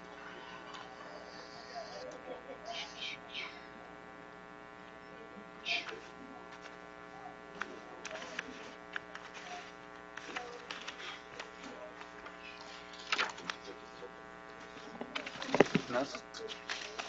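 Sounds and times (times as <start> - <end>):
electrical buzz: 0.0 - 17.0
room murmur: 0.0 - 17.0.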